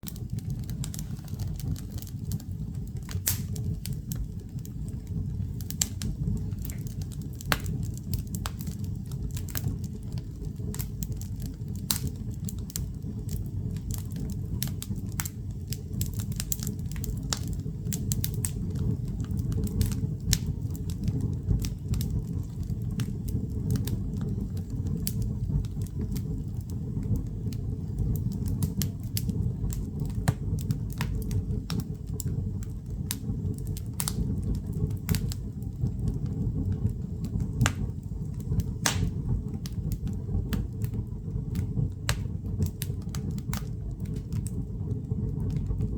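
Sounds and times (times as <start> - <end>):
fire low rumble: 0.0 - 45.9
firewood crackling and popping: 0.0 - 45.9.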